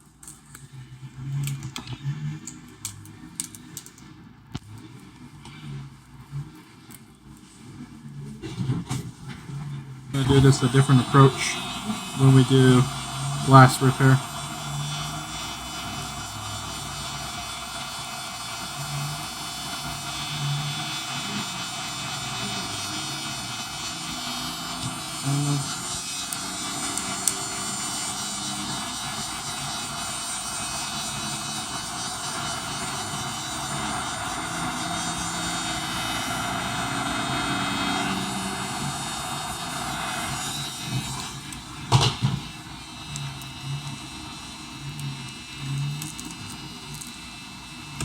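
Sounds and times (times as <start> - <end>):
hot-air blower rushing: 8.4 - 48.0.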